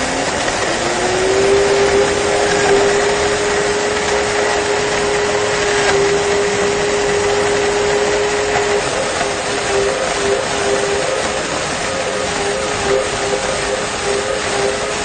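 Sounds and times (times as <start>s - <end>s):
blender motor whine: 0.0s - 15.0s.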